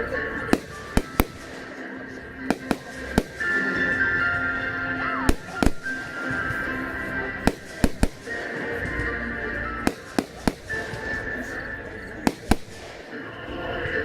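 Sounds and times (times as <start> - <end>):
music playing: 0.0 - 14.0
fireworks bangs: 0.5 - 4.5, 5.1 - 13.2.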